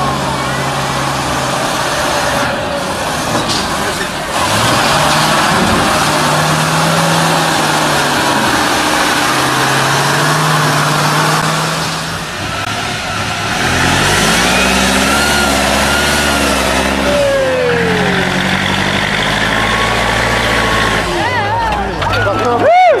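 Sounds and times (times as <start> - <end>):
diesel truck engines revving: 0.0 - 23.0.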